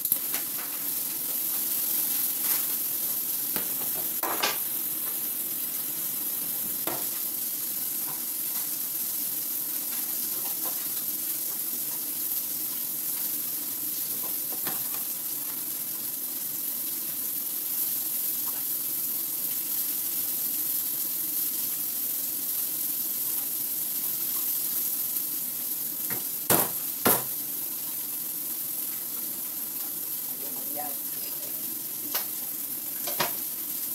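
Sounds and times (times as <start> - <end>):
steady hiss: 0.0 - 33.9.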